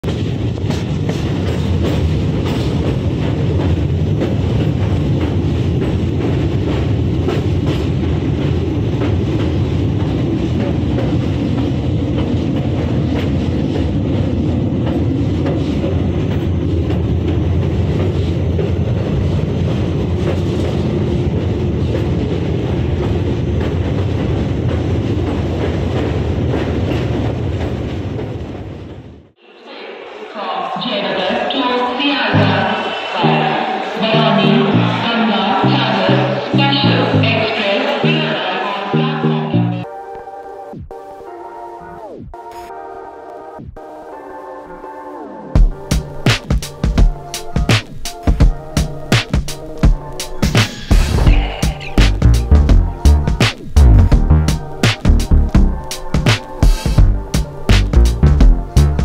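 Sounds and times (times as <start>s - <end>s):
train rumbling: 0.0s - 40.2s, 45.4s - 59.0s.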